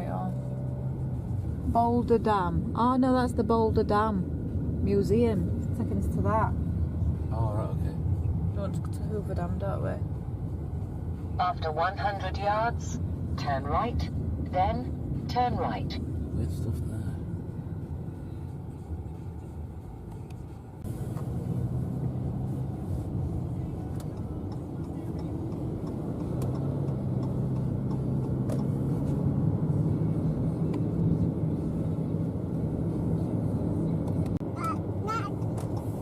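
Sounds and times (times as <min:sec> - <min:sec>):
car engine and tyre drone: 0:00.0 - 0:36.0.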